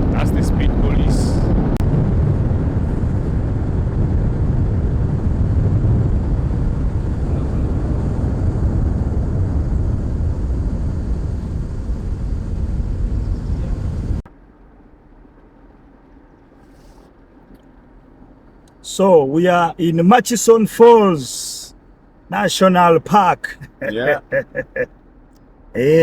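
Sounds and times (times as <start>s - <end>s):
vehicle road and engine rumble: 0.0s - 26.0s.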